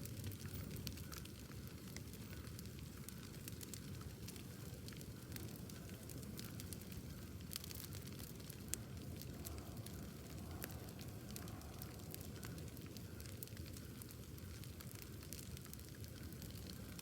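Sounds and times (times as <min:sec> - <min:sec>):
bonfire flames rushing: 0:00.0 - 0:17.0
fire crackling and popping: 0:00.0 - 0:17.0.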